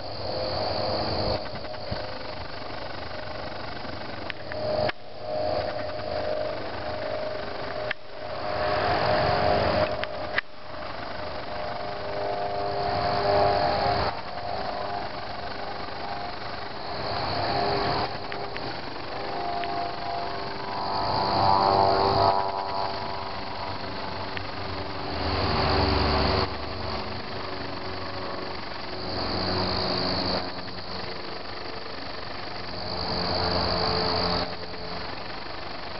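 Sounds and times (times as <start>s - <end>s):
crickets chirping: 0.0s - 35.9s.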